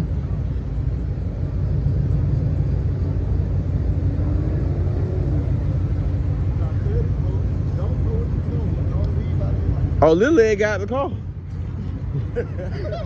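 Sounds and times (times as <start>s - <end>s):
car engine exhaust rumble: 0.0s - 13.0s.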